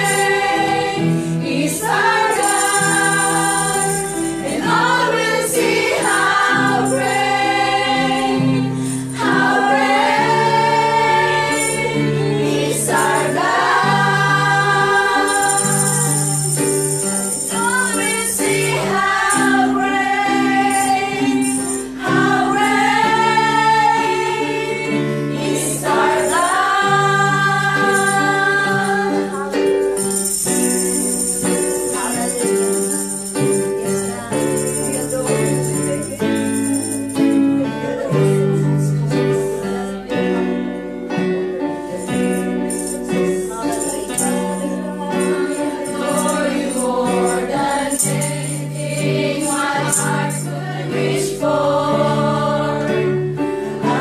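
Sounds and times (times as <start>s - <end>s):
tambourine jingles: 0.0s - 40.6s, 41.6s - 54.0s.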